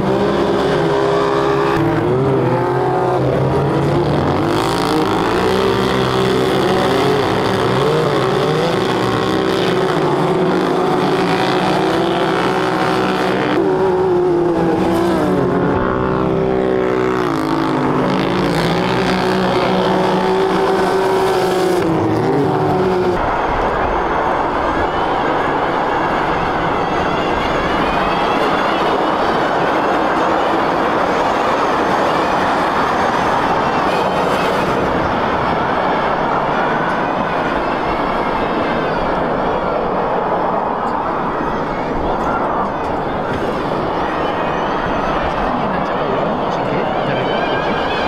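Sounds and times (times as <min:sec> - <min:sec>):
buggy engines revving: 0:00.0 - 0:48.0
rough noisy car engine: 0:00.0 - 0:48.0.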